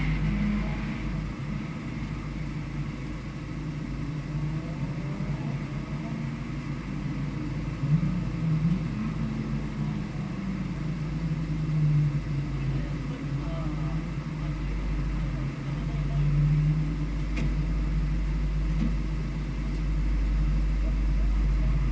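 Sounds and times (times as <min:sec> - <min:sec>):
vehicle engine driven hard: 0:00.0 - 0:21.9.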